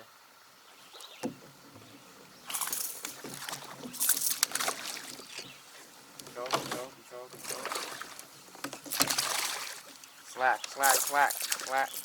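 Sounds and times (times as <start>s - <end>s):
water splashing around a kayak: 1.0s - 12.0s.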